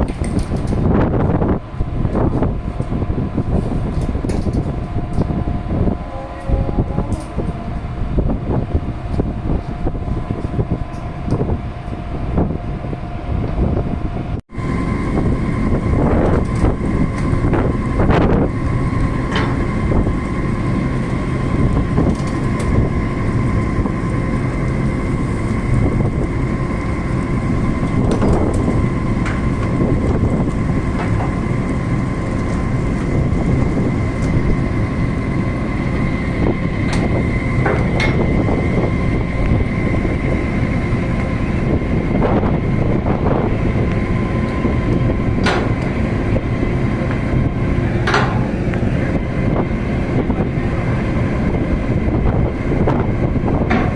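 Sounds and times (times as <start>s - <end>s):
heavy mechanical rumble with whine: 0.0s - 53.9s.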